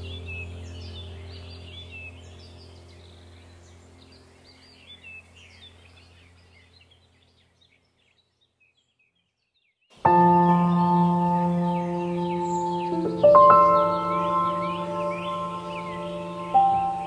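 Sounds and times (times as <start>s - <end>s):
low steady hum: 0.0s - 8.1s, 10.0s - 17.0s
birds chirping: 0.0s - 17.0s.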